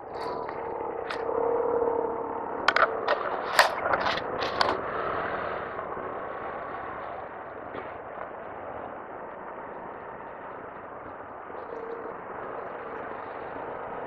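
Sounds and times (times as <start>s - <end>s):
wind noise: 0.0s - 14.0s.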